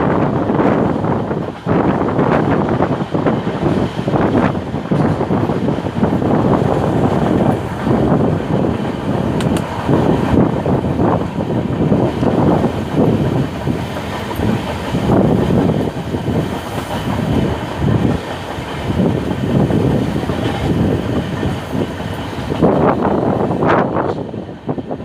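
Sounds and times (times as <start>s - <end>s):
train wheels rumbling and rattling: 0.0s - 25.0s.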